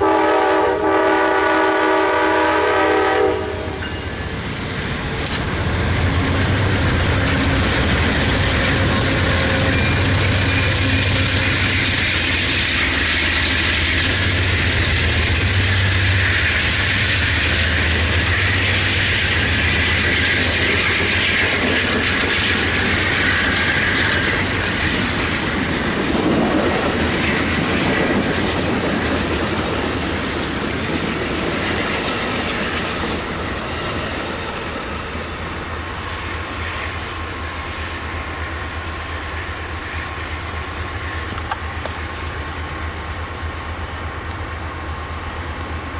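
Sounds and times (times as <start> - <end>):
passenger train rolling past: 0.0 - 45.9.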